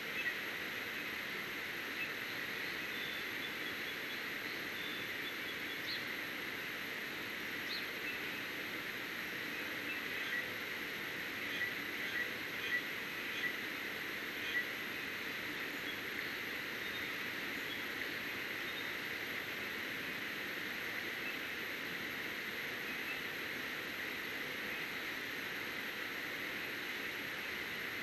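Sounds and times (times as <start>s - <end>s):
outdoor hiss: 0.0s - 28.0s.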